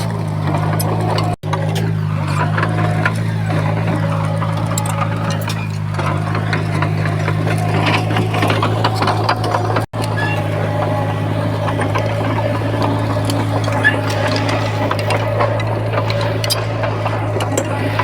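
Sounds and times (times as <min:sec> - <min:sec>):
bulldozer diesel engine running: 0:00.0 - 0:18.0
metallic clanks and squeaks: 0:00.0 - 0:18.0.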